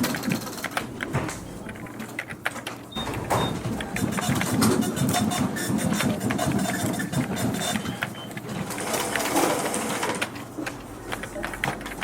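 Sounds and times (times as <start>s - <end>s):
low background murmur: 0.0s - 12.0s
printing machine clicking: 0.0s - 12.0s.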